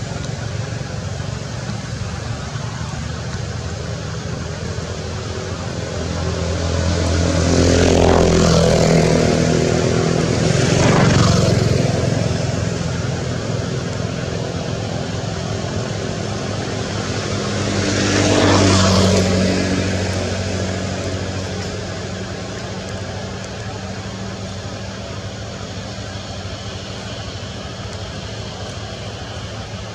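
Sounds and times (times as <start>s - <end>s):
vehicles passing on road: 0.0s - 29.9s.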